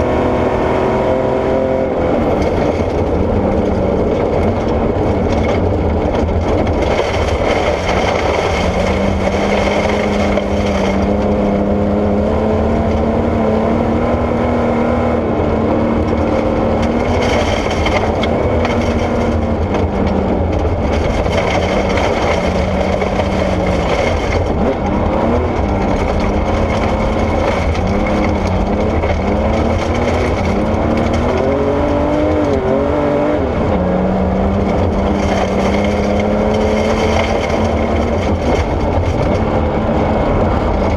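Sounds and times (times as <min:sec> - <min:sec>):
car engine revving: 0:00.0 - 0:40.9
tyres on gravel: 0:02.2 - 0:11.7, 0:16.0 - 0:33.0, 0:34.2 - 0:40.9.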